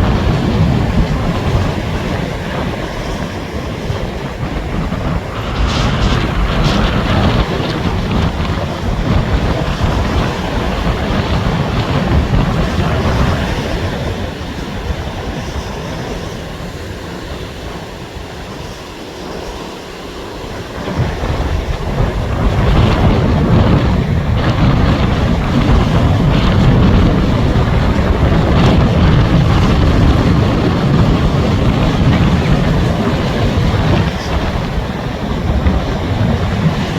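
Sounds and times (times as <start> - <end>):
gusty wind buffeting microphone: 0.0 - 36.9
surf breaking on shore: 0.0 - 36.9.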